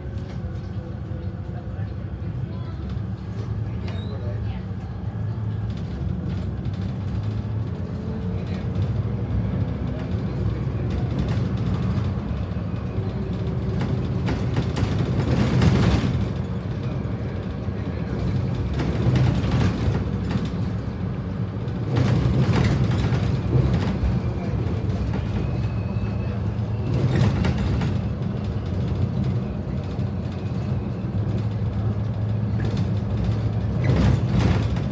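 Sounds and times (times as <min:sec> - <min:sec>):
bus diesel engine running: 0:00.0 - 0:34.9
road noise: 0:00.0 - 0:34.9.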